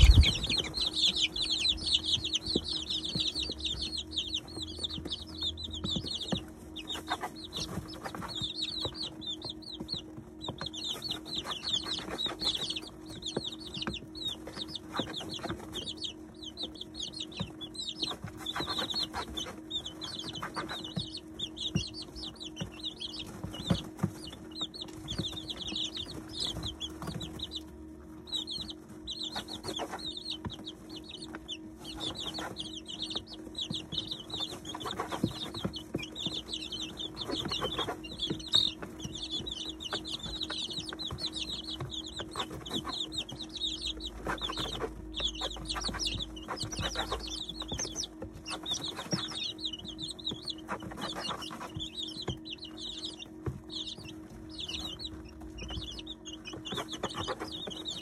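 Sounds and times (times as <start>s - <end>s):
beaks pecking at grain: 0.0s - 58.0s
chicks peeping: 0.0s - 58.0s
steady low hum: 0.0s - 58.0s.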